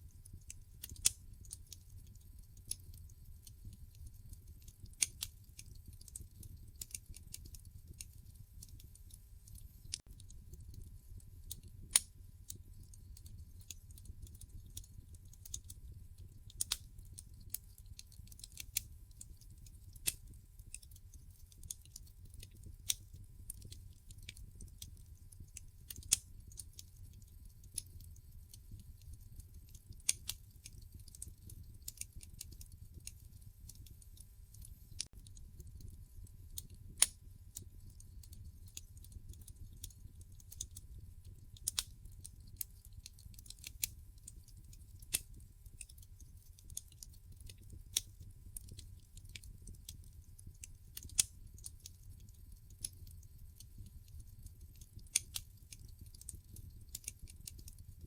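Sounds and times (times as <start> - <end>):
logs crackling and popping: 0.1 - 57.9.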